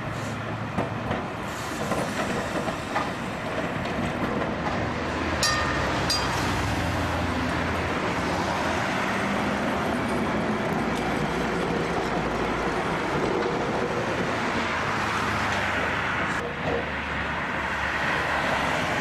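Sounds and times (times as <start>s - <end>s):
tram motor hum: 0.0s - 17.4s
tram wheels rumbling on rails: 0.0s - 19.0s.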